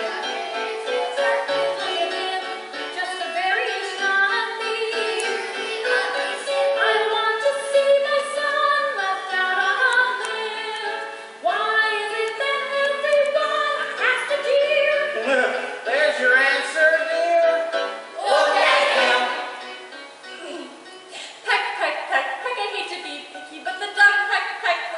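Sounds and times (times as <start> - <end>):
voices singing with accompaniment: 0.0 - 20.0.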